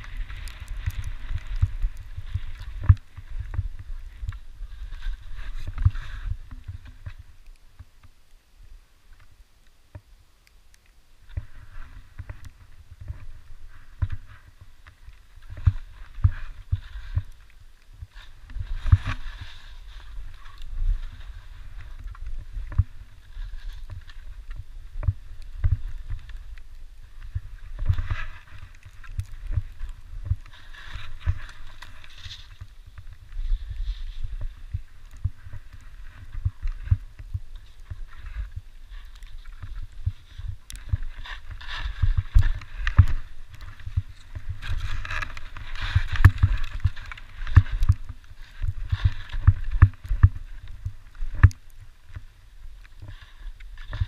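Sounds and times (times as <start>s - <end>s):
skis scraping over snow: 0.0s - 7.3s, 11.4s - 54.0s.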